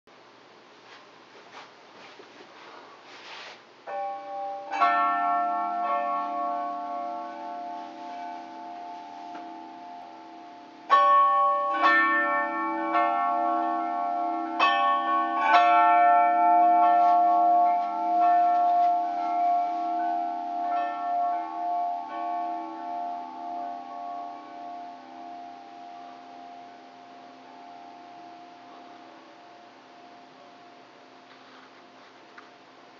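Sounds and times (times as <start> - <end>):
metal tubular chimes ringing: 3.9 - 31.3.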